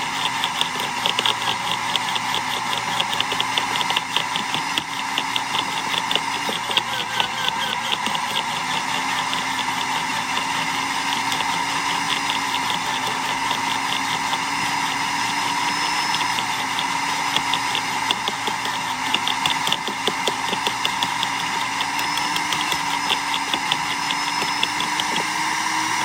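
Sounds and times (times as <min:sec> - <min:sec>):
electric wood chipper motor: 0:00.0 - 0:26.0.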